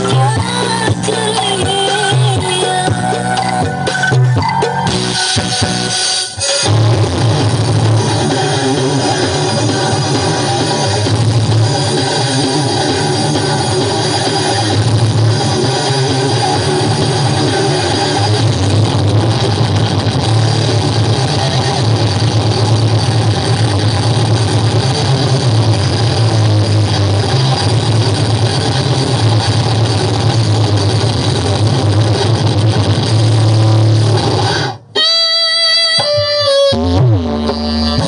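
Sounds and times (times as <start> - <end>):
loud bass-heavy music from speakers: 0.0 - 38.0.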